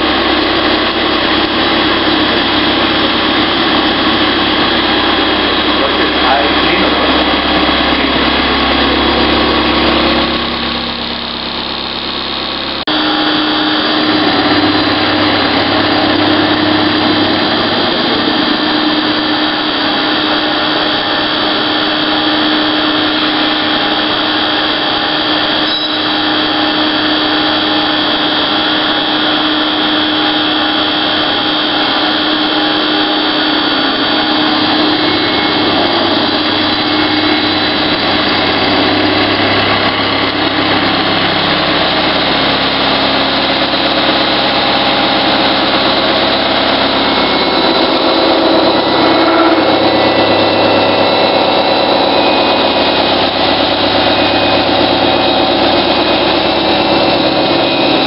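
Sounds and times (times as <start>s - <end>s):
metal cutting noise: 0.0s - 58.0s
spindle hum: 0.0s - 58.0s.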